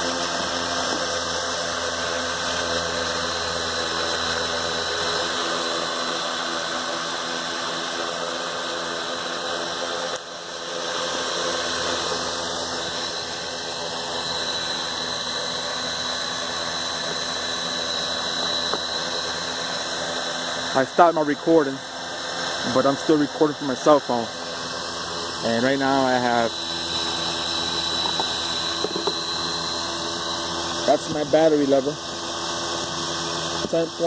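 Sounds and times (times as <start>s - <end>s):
drone motors and propellers whining: 0.0s - 34.0s.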